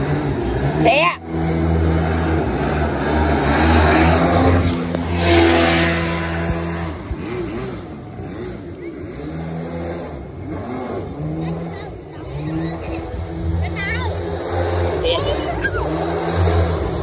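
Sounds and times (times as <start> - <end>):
two-stroke boat engine racing: 0.0 - 17.0
water rushing: 0.0 - 17.0.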